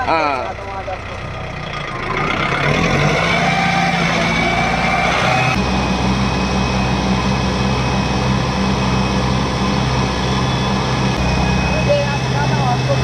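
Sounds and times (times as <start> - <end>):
tractor diesel engine running hard: 0.0 - 13.0.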